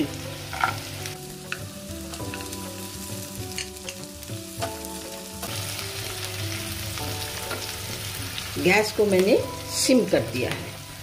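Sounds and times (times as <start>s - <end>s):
food sizzling in a pan: 0.0s - 11.0s
soft background music: 0.0s - 11.0s.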